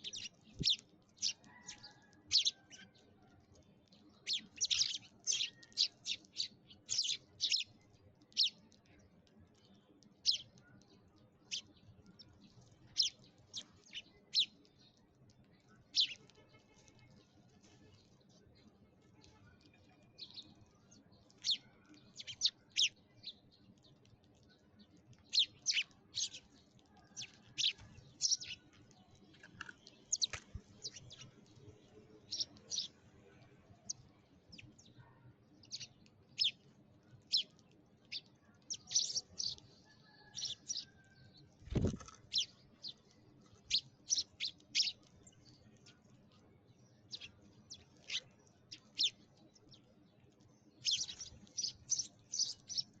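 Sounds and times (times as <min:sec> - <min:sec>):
sparrows chirping: 0:00.0 - 0:53.0.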